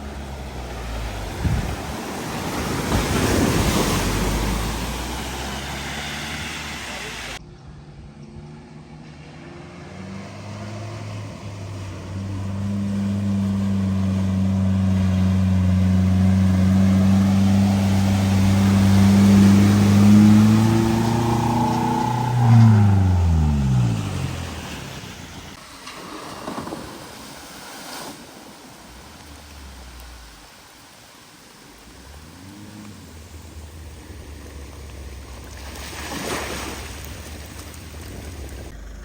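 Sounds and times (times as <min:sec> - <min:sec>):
water splashing: 0:00.0 - 0:07.4, 0:09.6 - 0:39.0
vehicle engine passing: 0:00.0 - 0:25.6, 0:31.7 - 0:39.0.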